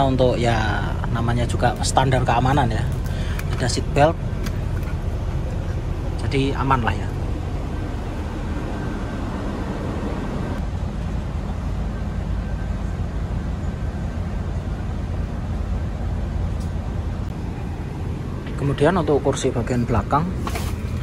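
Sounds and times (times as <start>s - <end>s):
bus engine and air conditioning: 0.0s - 21.0s.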